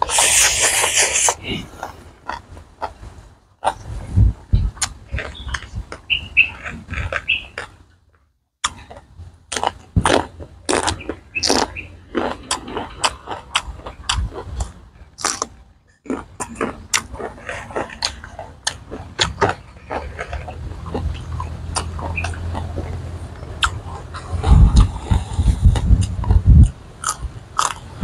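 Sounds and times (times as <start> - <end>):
wet chewing: 0.0 - 3.0, 4.6 - 7.8, 8.6 - 28.0
crunching raw vegetables: 4.7 - 28.0.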